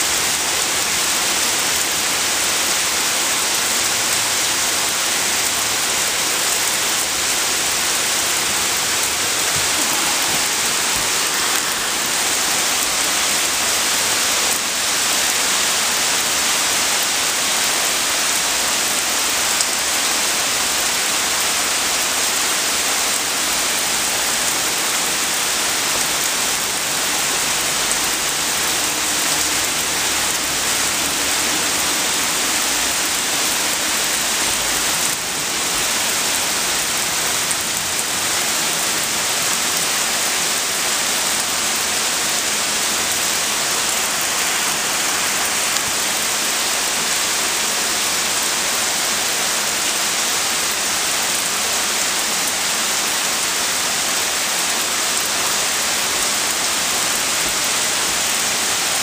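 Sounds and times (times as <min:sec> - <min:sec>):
heavy rain on asphalt: 0:00.0 - 0:59.0.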